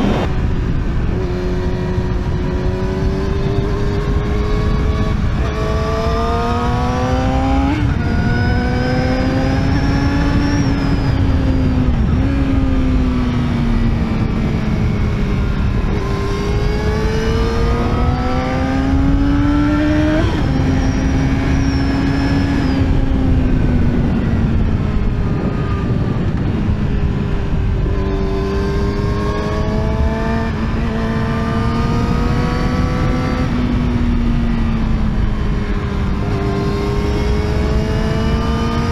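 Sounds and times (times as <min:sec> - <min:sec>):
motorcycle engine revving through gears: 0:00.0 - 0:38.9
wind noise on microphone: 0:00.0 - 0:38.9.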